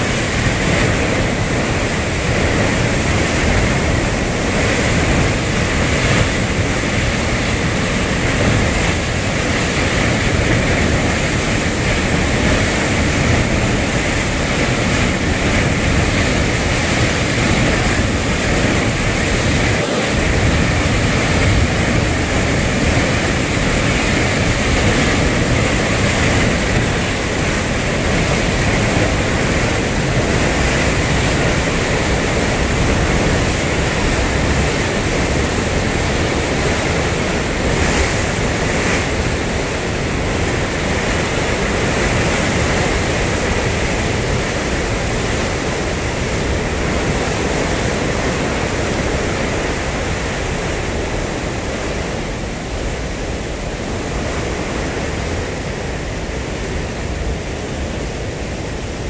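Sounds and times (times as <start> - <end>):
floodwater rushing through spillway: 0.0 - 59.0.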